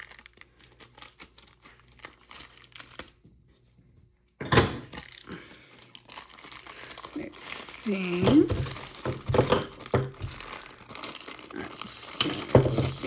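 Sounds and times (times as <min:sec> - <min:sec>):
plastic packaging crinkling: 0:00.0 - 0:03.3, 0:04.8 - 0:13.0.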